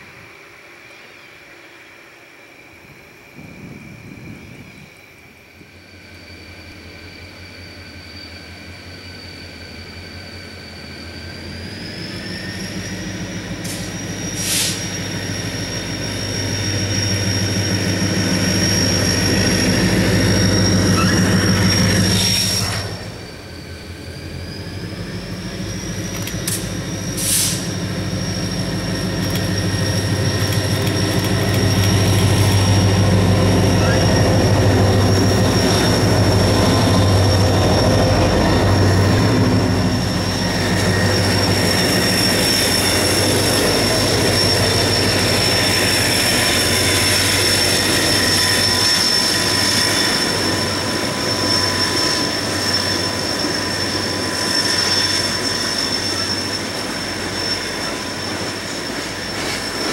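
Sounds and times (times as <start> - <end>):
diesel locomotive engine drone: 0.0 - 59.9
tank cars wheel and rail noise: 0.0 - 59.9
high-pitched wheel squeal: 3.5 - 59.9.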